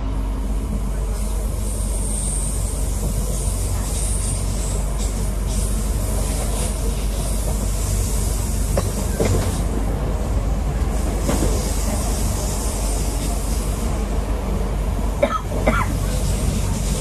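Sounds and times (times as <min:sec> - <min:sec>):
train wheel and track rumble: 0:00.0 - 0:17.0.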